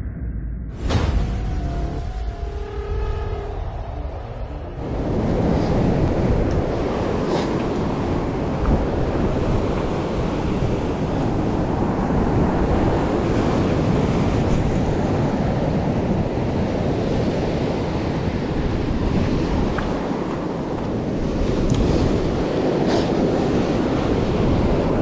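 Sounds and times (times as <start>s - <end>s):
wind buffeting microphone: 0.8s - 25.0s.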